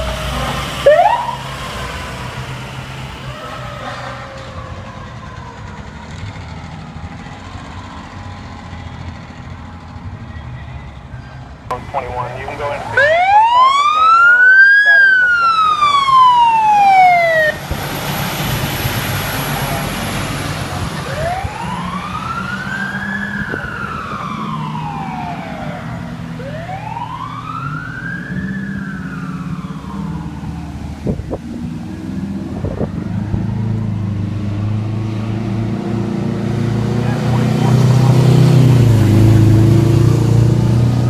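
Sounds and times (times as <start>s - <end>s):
emergency siren wailing: 0.0s - 17.8s, 18.5s - 41.0s.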